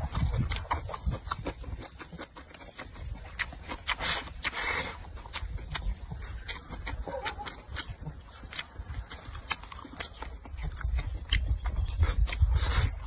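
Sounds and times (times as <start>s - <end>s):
man chewing: 0.0s - 13.0s.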